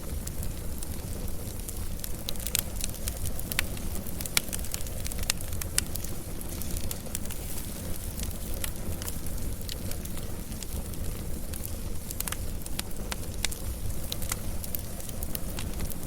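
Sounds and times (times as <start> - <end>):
burning logs crackling and popping: 0.0 - 16.0
low rumble of flame: 0.0 - 16.0.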